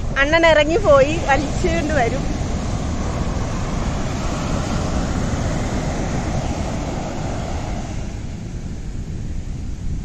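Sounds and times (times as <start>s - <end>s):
sea surf washing on beach: 0.0s - 10.0s
wind buffeting microphone: 0.0s - 10.0s.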